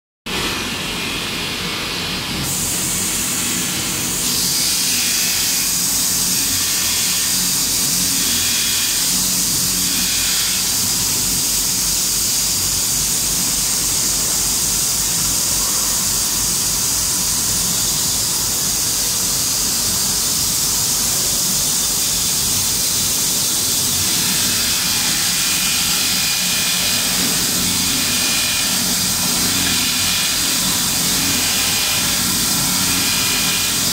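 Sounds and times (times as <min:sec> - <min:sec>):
sanding belts hissing on metal: 0:02.4 - 0:33.9.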